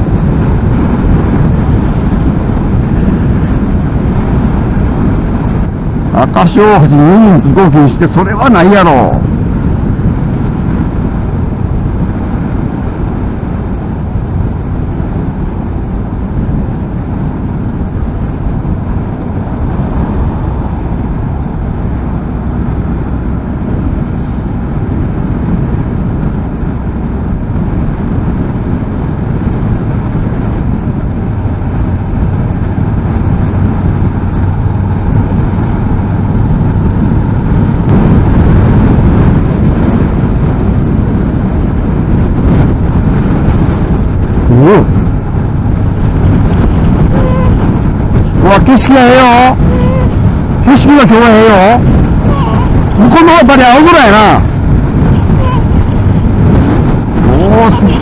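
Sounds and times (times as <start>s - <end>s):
motorcycle engine hum: 0.0s - 58.0s
wind rush on microphone: 0.0s - 58.0s.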